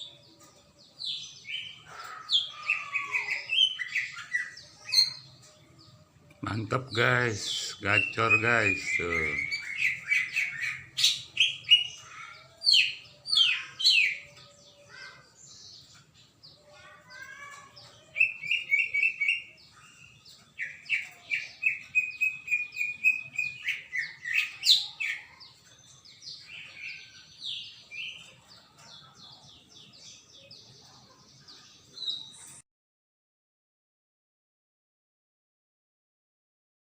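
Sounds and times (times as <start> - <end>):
bird singing chirps and trills: 0.0 - 32.6.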